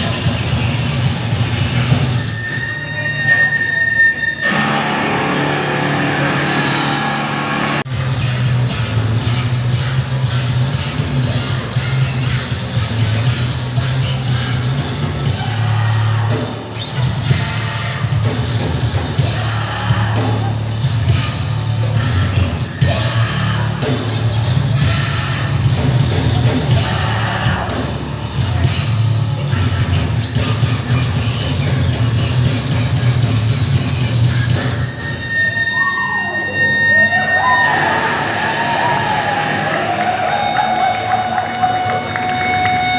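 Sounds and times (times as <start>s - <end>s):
heavy metal band playing: 0.0s - 42.9s.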